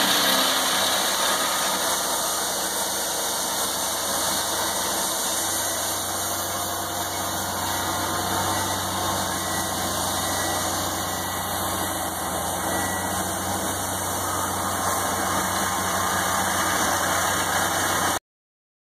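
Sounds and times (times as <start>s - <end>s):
piling rig engine running: 0.0s - 18.2s.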